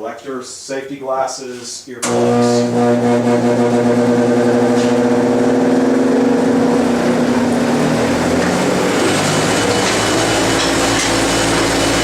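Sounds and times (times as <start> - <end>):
table saw and dust collector hum: 2.0 - 12.0.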